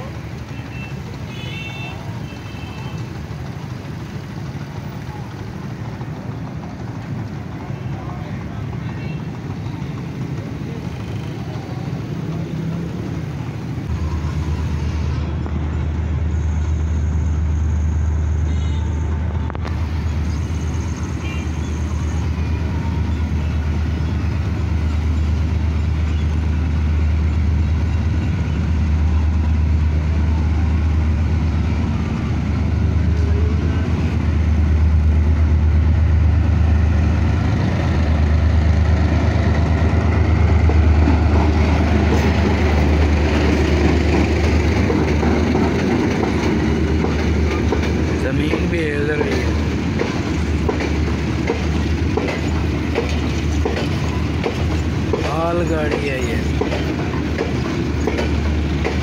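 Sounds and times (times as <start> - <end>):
diesel locomotive engine rumble: 0.0 - 59.0.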